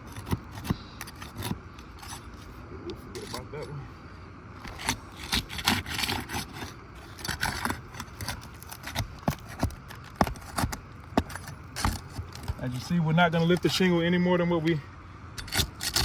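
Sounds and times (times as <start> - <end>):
pry bar scraping shingles: 0.0 - 3.8, 4.6 - 14.0, 15.3 - 16.0.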